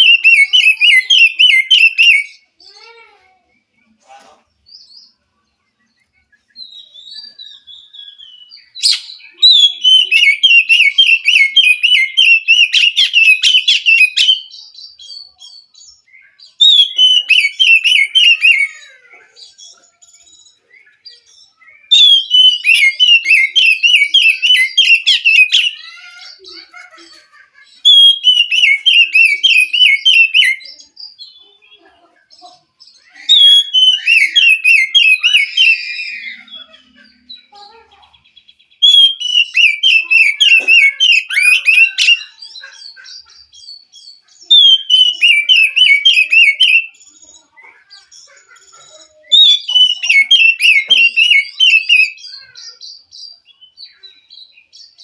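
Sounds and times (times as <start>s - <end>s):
bird warbling song: 0.0s - 55.0s
soft bird calls: 0.0s - 55.0s.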